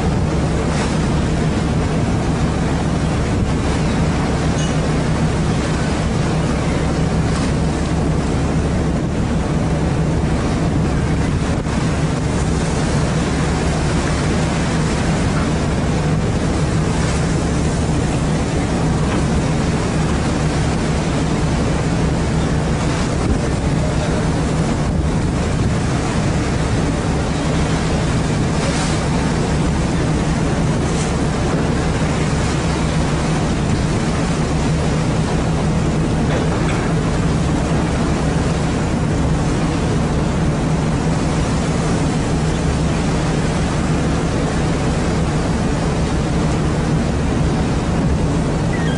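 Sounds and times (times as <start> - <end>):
boat engine droning: 0.0 - 48.9
sea wash: 0.0 - 48.9
wind on microphone: 0.0 - 48.9.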